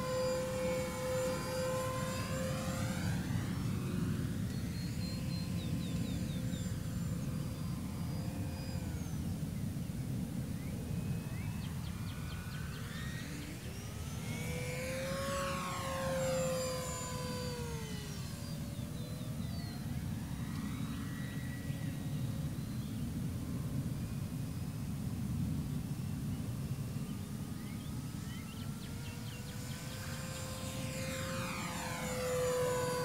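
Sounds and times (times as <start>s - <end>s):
model plane motor whining: 0.0s - 24.9s, 26.6s - 33.0s.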